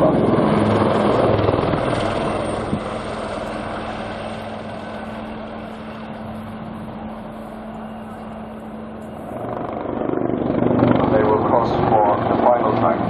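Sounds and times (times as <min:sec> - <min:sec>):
helicopter drone: 0:00.0 - 0:13.0.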